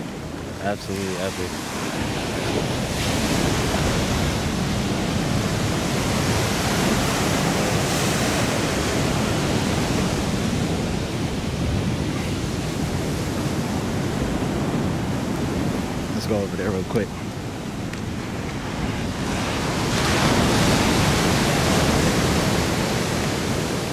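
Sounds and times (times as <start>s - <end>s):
ocean surf breaking: 0.0s - 23.9s.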